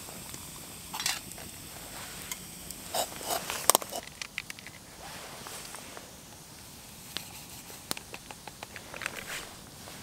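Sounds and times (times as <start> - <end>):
campfire crackling: 0.0 - 10.0
sharp snaps of fire: 0.1 - 4.7, 5.6 - 9.5.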